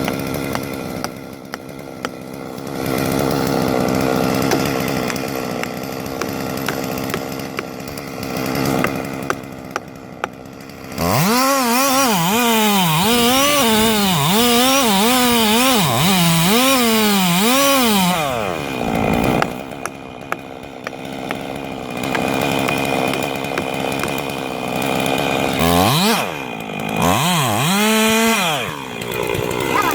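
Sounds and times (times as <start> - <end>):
chainsaw running: 0.0 - 29.9.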